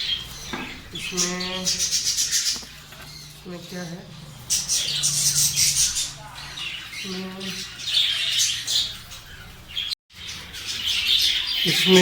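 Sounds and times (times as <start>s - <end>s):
budgerigars squawking and chattering: 0.0s - 12.0s.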